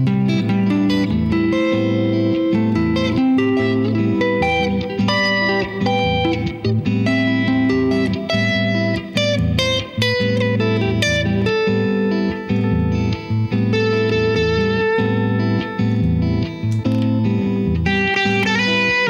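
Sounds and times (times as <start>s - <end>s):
clean electric guitar melody: 0.0s - 19.0s.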